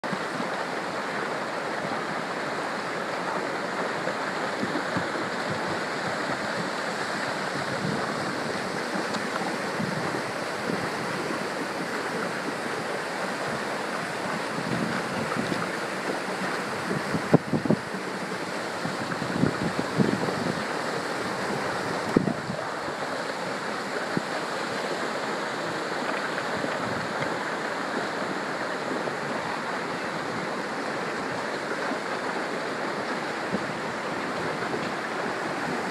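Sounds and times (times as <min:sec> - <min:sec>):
flood water rushing down street: 0:00.0 - 0:35.9.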